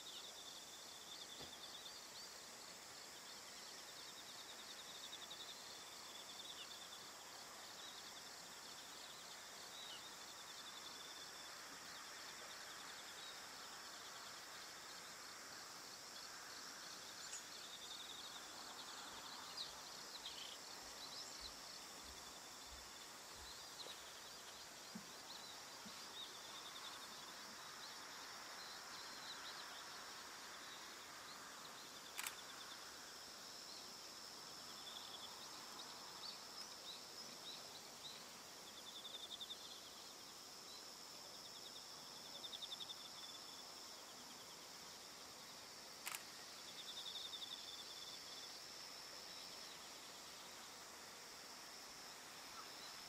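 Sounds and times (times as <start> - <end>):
crickets trilling: 2.9 - 53.0.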